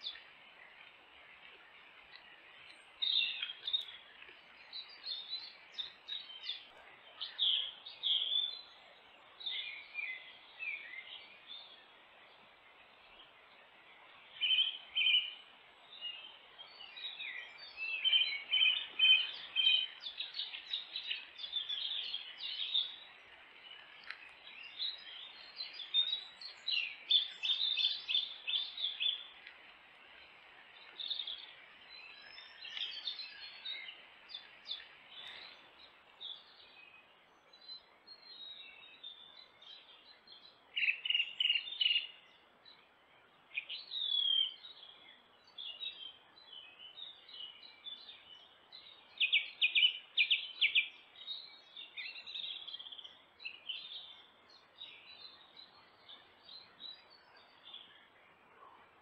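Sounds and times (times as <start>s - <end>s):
faint steady hiss: 0.0s - 59.0s
songbirds singing: 0.0s - 59.0s.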